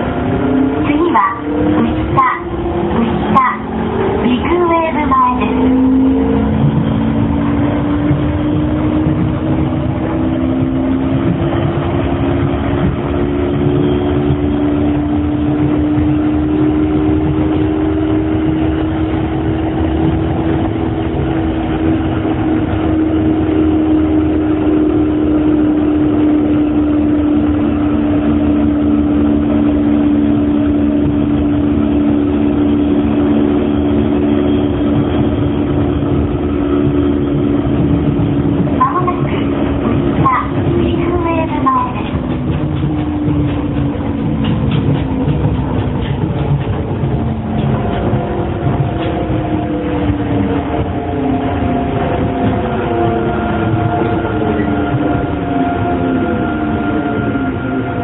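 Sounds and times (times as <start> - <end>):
traction motor low hum: 0.0 - 58.0
train running gear rumble: 0.0 - 58.0.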